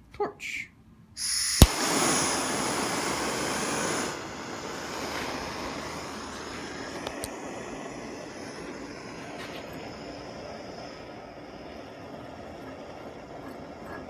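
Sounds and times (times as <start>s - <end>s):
gas torch flame hissing: 1.2s - 14.0s.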